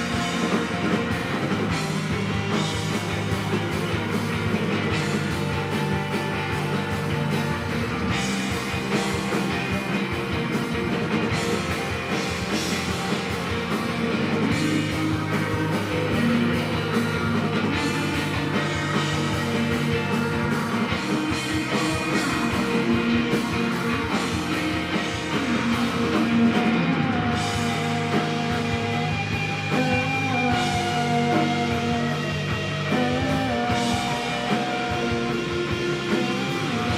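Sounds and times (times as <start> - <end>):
rock band playing live: 0.0 - 36.9.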